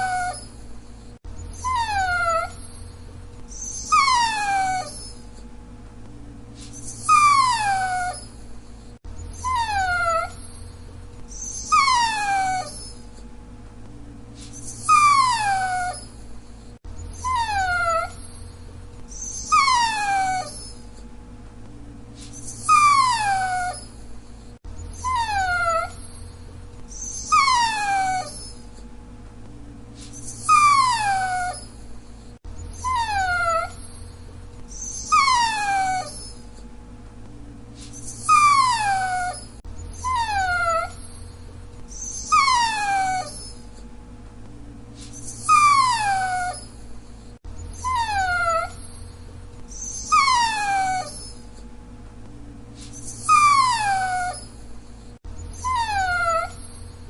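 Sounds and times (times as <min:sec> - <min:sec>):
dog whining: 0:00.0 - 0:05.5, 0:06.6 - 0:13.3, 0:14.4 - 0:21.1, 0:22.2 - 0:28.9, 0:30.0 - 0:36.7, 0:37.8 - 0:43.9, 0:45.0 - 0:51.7, 0:52.8 - 0:57.0.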